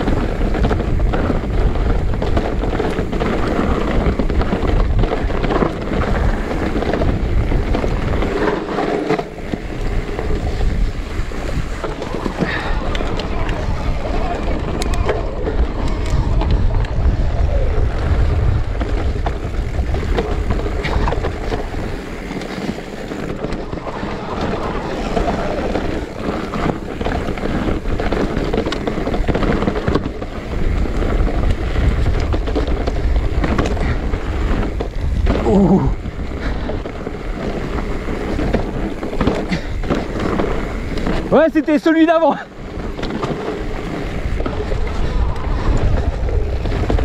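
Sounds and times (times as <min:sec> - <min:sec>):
bike knocks and rattles: 0:00.0 - 0:47.0
bike tyres rolling over stones: 0:00.0 - 0:47.0
wind buffeting microphone: 0:00.0 - 0:47.0.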